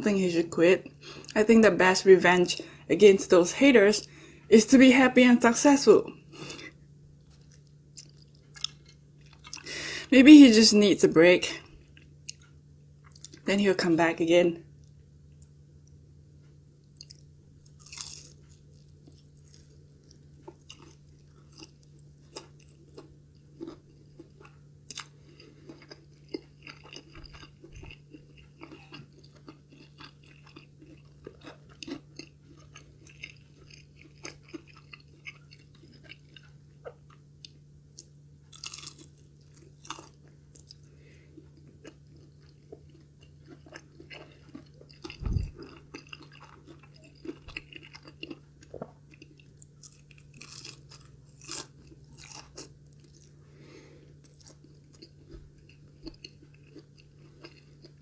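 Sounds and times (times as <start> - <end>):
low steady hum: 0.0 - 58.0
crunchy chewing: 6.3 - 9.7, 14.8 - 58.0.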